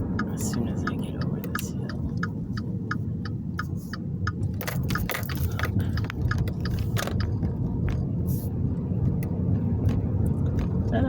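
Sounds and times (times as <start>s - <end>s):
engine and road noise rumble: 0.0s - 11.0s
turn signal ticking: 0.0s - 11.0s.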